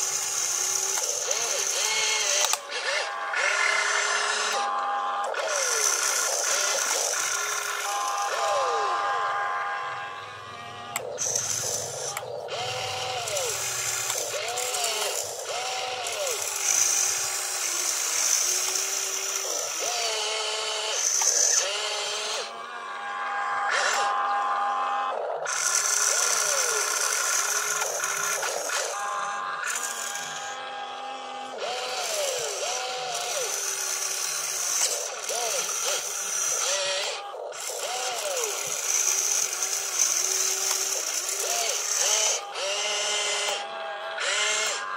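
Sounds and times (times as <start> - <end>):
electric motors whining: 0.0 - 44.9.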